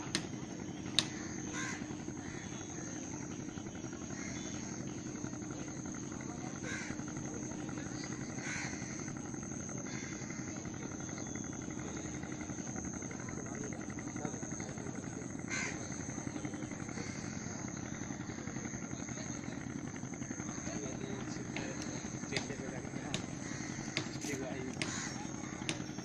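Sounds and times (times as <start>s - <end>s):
bird calls: 0.0s - 26.0s
high insect drone: 0.0s - 26.0s.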